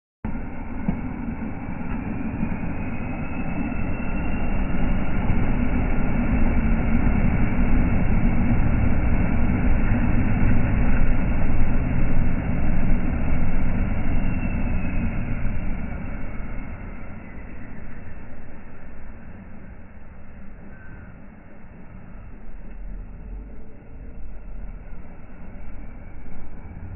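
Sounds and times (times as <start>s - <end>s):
diesel engine at low revs: 0.3s - 26.9s.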